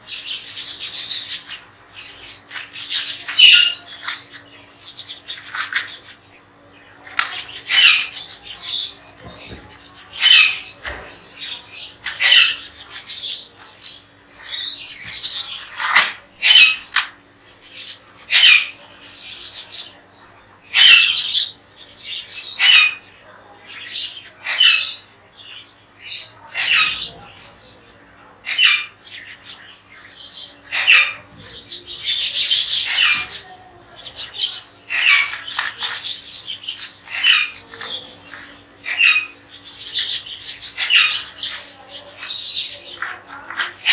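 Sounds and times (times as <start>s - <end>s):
parrots squawking: 0.0s - 18.8s, 20.7s - 21.5s, 22.2s - 23.1s, 24.0s - 25.5s, 26.2s - 27.7s, 28.4s - 43.9s.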